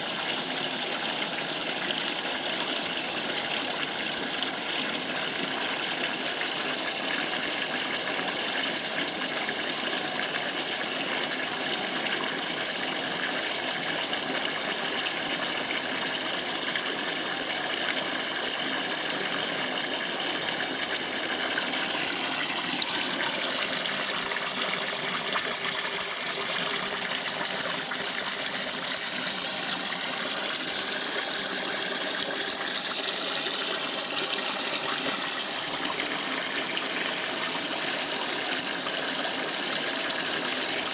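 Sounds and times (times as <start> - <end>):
water running into washing machine: 0.0 - 40.9.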